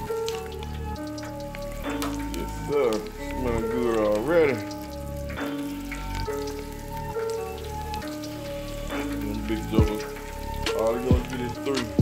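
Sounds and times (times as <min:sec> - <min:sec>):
background music: 0:00.0 - 0:12.0
chicken deep-frying in oil: 0:00.0 - 0:12.0.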